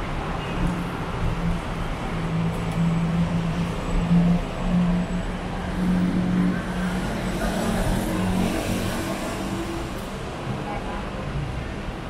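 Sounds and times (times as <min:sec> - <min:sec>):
road noise: 0:00.0 - 0:12.0
vehicle engines humming: 0:00.0 - 0:12.0.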